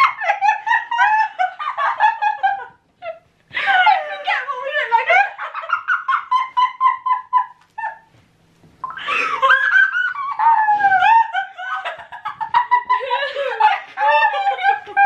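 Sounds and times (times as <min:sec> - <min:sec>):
girls laughing: 0:00.0 - 0:08.2, 0:08.8 - 0:15.0.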